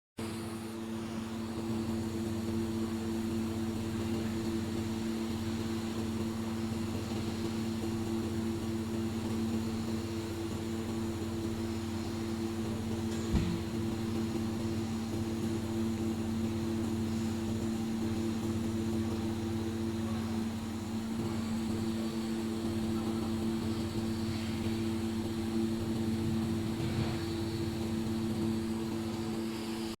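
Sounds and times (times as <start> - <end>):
laser welding machine humming: 0.2 - 30.0.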